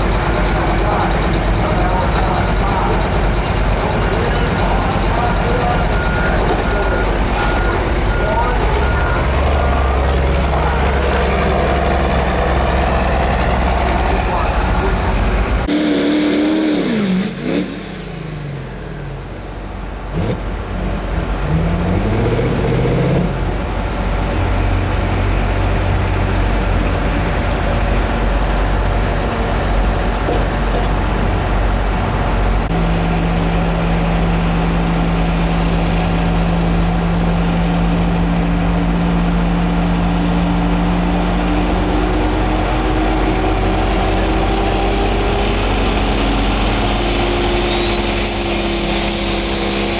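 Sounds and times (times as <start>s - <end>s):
diesel tractor engine revving: 0.0s - 49.9s.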